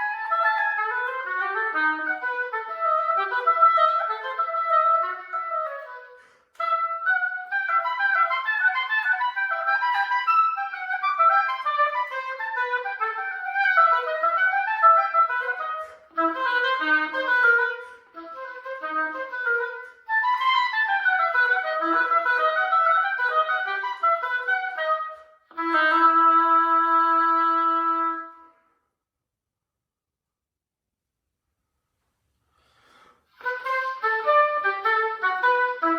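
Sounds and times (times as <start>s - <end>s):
solo oboe playing: 0.0s - 28.8s, 33.3s - 35.9s.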